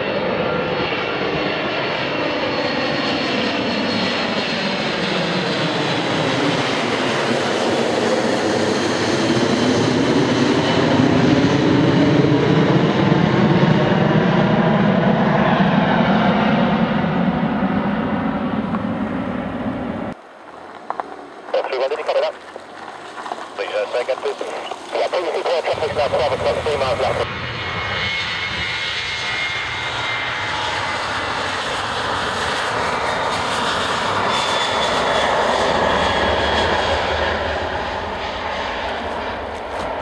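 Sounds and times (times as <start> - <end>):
jet flying past overhead: 0.0 - 40.0.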